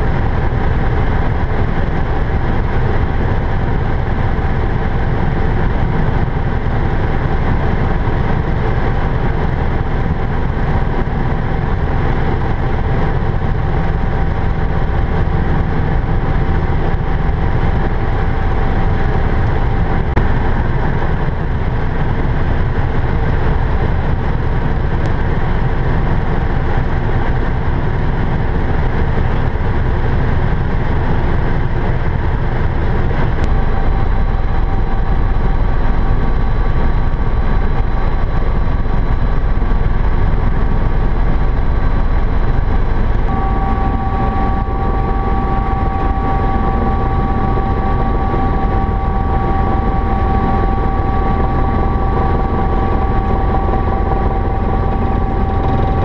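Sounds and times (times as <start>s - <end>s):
helicopter rotor and engine rumble: 0.0s - 56.0s
thin steady whine: 0.0s - 56.0s.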